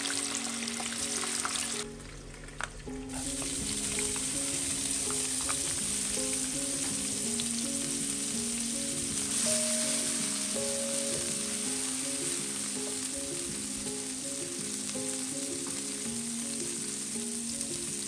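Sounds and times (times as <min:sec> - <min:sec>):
hot oil sizzling in wok: 0:00.0 - 0:18.0
soft background music: 0:00.0 - 0:18.0.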